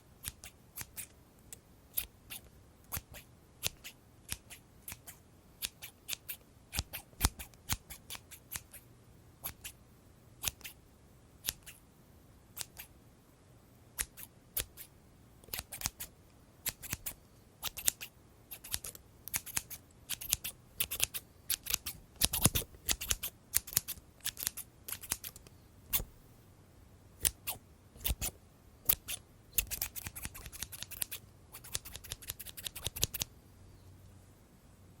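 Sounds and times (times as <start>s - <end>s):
scissors snipping: 0.2s - 8.8s, 10.4s - 10.8s, 11.4s - 11.8s, 12.6s - 12.9s, 14.0s - 26.3s, 27.2s - 33.3s.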